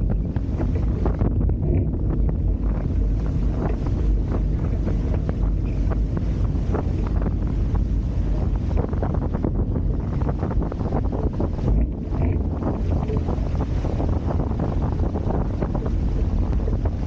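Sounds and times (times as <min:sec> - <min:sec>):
water splashing against hulls: 0:00.0 - 0:17.0
wind buffeting microphone: 0:00.0 - 0:17.0.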